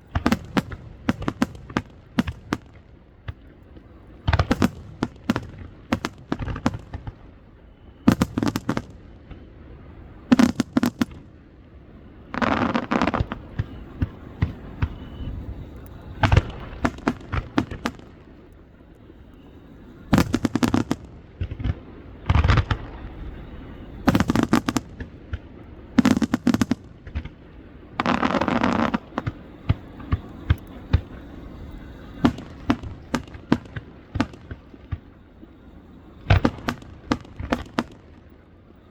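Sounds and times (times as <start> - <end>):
fireworks bangs: 0.0 - 9.5, 12.4 - 38.9
rapid fireworks popping: 0.0 - 9.5, 10.2 - 11.3, 12.4 - 38.9.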